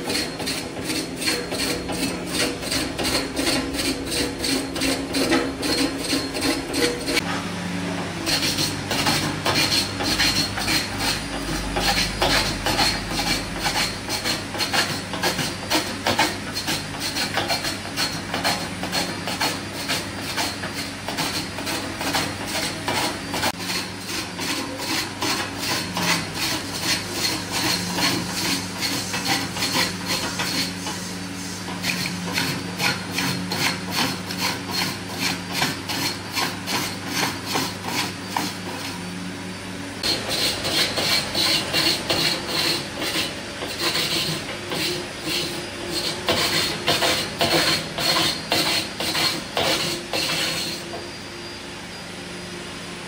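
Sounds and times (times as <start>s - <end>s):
lathe tool scraping wood: 0.0s - 7.3s, 8.0s - 39.1s, 40.0s - 51.2s.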